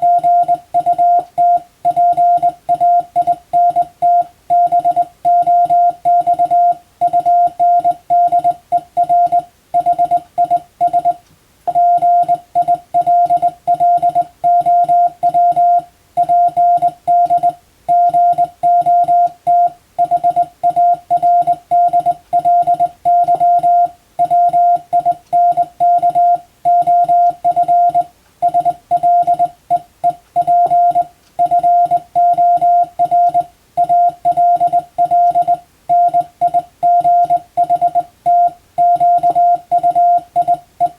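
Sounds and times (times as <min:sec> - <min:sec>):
morse code beeps: 0:00.0 - 0:40.9.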